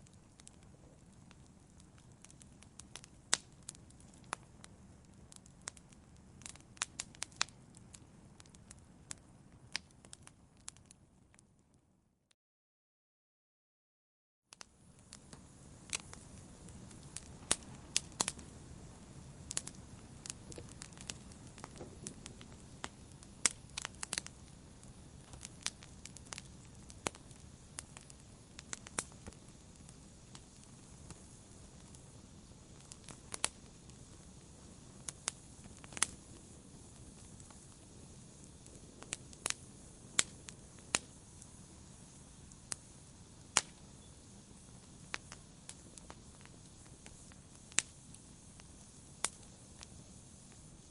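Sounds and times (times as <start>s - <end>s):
fire crackling and popping: 0.0s - 11.9s, 14.5s - 50.9s
rumble of flames: 0.0s - 11.9s, 14.6s - 50.9s.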